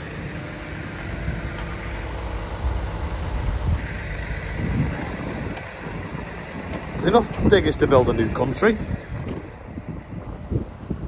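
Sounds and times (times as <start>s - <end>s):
vehicle rumbling: 0.0s - 11.0s
wind noise on microphone: 0.0s - 11.0s.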